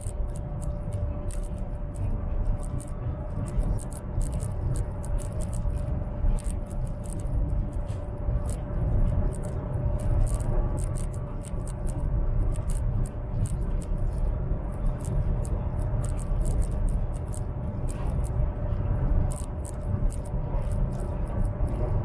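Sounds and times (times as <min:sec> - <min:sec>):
faint steady hum: 0:00.0 - 0:22.0
small irregular clicks: 0:00.0 - 0:22.0
train cabin low rumble: 0:00.0 - 0:22.0.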